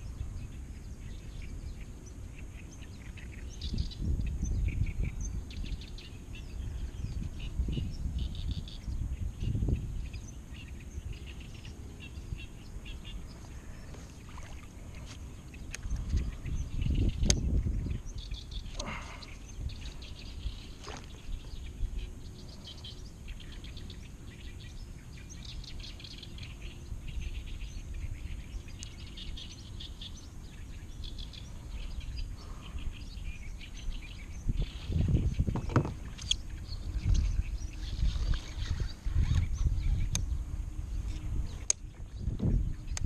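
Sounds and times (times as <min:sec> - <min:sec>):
low steady rumble: 0:00.0 - 0:43.0
small birds chirping: 0:00.0 - 0:43.0.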